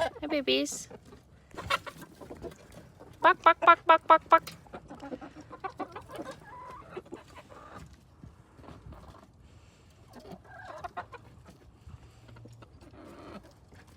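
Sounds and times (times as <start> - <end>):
hens clucking: 0.0 - 13.9.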